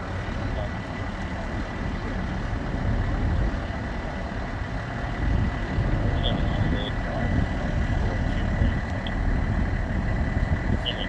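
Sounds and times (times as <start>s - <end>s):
helicopter rumble: 0.0s - 11.0s.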